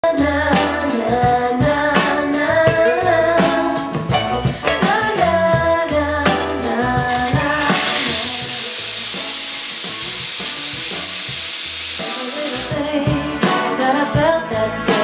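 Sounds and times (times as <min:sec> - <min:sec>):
pop music with singing: 0:00.0 - 0:15.0.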